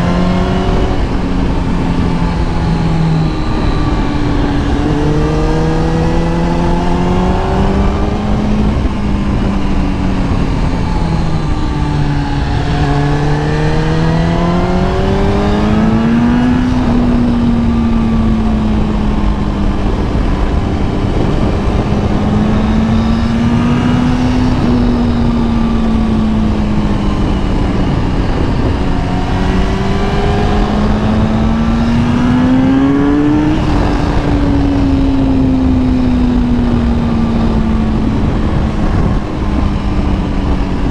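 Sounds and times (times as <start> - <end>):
motorcycle engine revving: 0.0 - 40.9
wind noise: 0.0 - 40.9.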